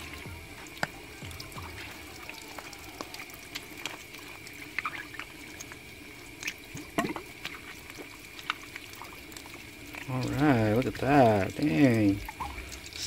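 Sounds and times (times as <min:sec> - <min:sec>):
water trickling and dripping: 0:00.0 - 0:13.0.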